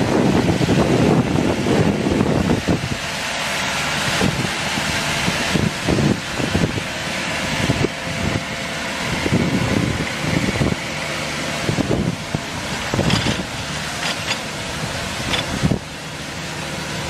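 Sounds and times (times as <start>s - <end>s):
wind buffeting microphone: 0.0s - 3.2s, 3.8s - 10.9s, 11.6s - 16.0s
tractor engine running: 0.0s - 17.0s.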